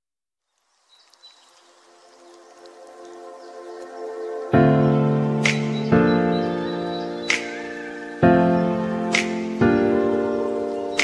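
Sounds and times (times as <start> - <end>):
slow sustained chords: 1.9 - 11.0.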